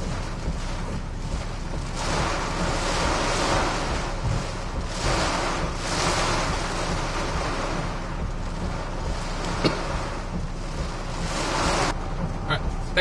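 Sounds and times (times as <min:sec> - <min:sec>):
deep rumble: 0:00.0 - 0:13.0
driving rain: 0:00.0 - 0:13.0
hurricane wind rushing: 0:00.0 - 0:13.0.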